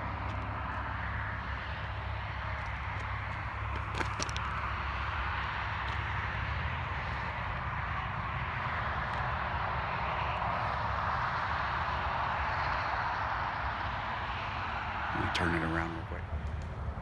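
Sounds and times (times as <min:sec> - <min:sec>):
distant highway traffic drone: 0:00.0 - 0:17.0.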